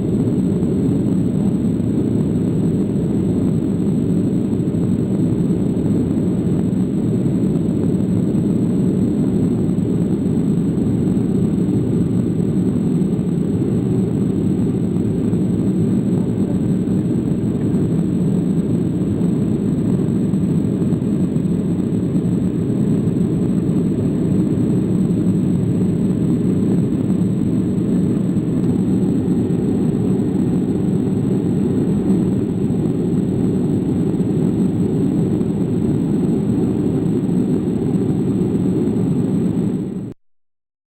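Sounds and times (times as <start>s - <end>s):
airplane engine rumble in flight: 0.0s - 40.2s.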